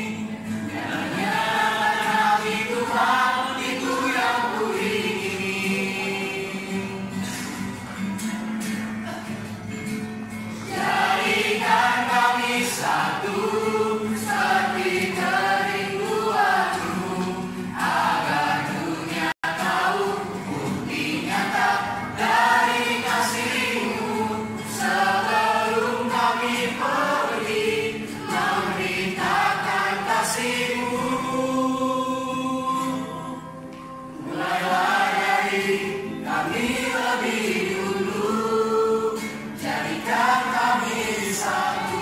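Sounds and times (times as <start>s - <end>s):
mixed choir singing a hymn: 0.0s - 8.1s, 10.5s - 42.0s.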